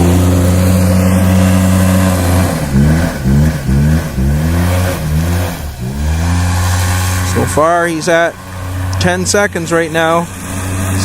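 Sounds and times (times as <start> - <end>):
small engine revving: 0.0 - 11.0.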